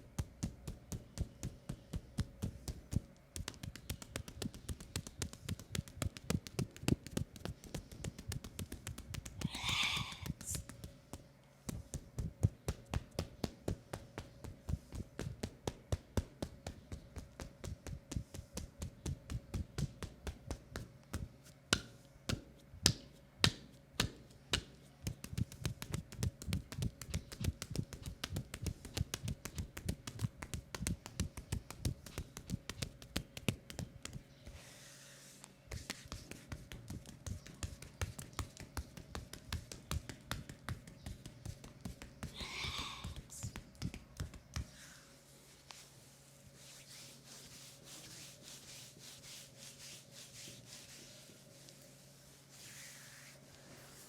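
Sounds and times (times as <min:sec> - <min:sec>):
hands tapping on a leg: 0:00.2 - 0:34.3, 0:35.7 - 0:44.8.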